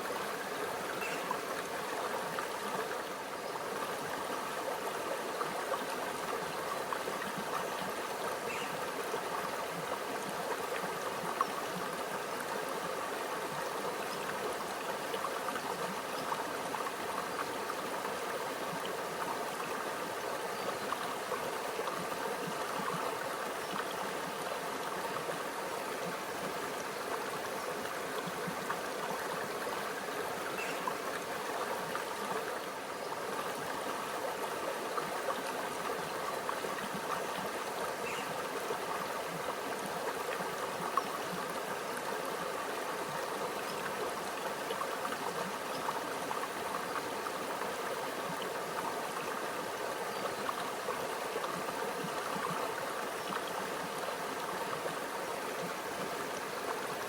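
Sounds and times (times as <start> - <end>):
stream gurgling over rocks: 0.0 - 57.0.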